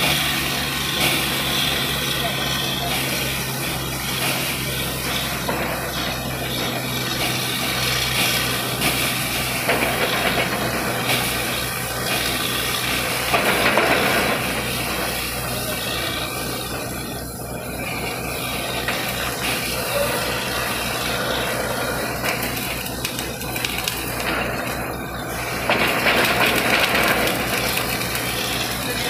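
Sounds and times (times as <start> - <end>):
drilling rig engine drone: 0.0 - 29.0.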